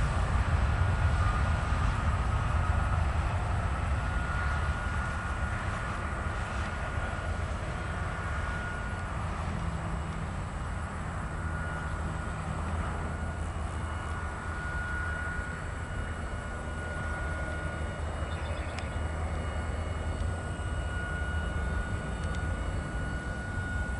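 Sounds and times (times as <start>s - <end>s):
jet airliner taking off: 0.0s - 23.9s.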